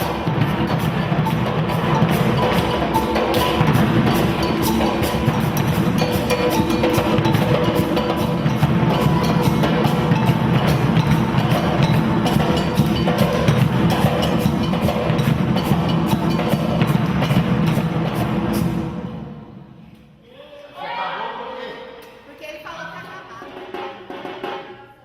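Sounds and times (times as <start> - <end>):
percussion ensemble drumming: 0.0 - 20.2, 21.3 - 25.0
sharp bright percussion strikes: 0.0 - 20.2.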